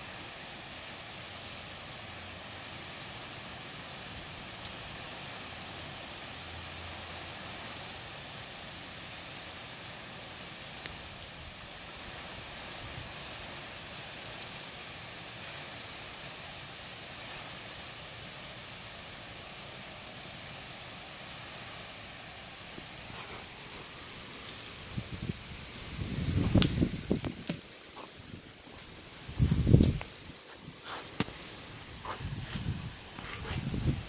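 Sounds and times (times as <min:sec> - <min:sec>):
wind and rain hissing: 0:00.0 - 0:34.0.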